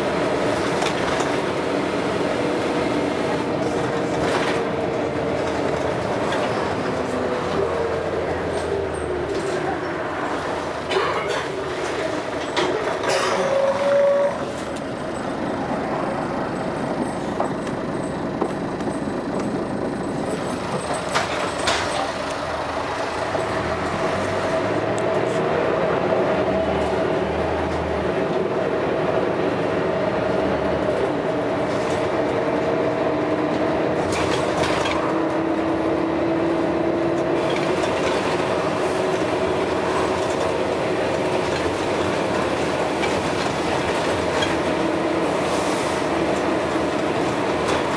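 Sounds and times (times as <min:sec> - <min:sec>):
diesel bus engine running: 0:00.0 - 0:47.9.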